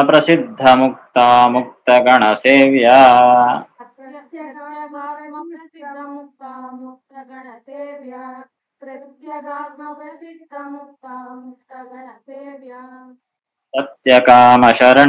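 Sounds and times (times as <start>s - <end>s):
person chanting devotional verse: 0.0s - 13.2s, 13.8s - 15.0s.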